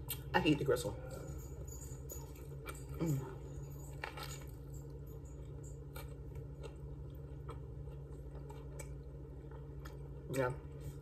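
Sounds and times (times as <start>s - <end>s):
low room hum: 0.0s - 11.0s
person chewing: 1.1s - 11.0s.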